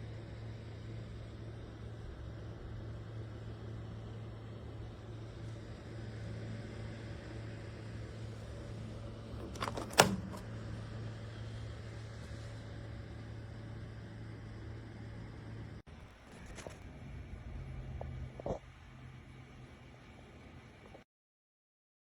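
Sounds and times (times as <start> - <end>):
heater fan humming: 0.0 - 21.0.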